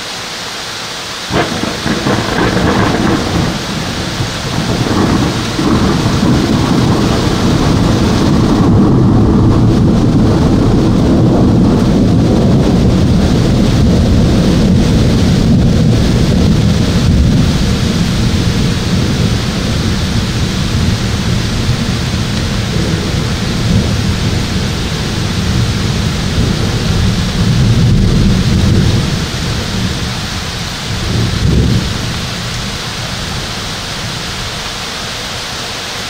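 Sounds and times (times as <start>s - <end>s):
steady rain: 0.0s - 36.0s
thunder rumbling: 1.3s - 34.8s.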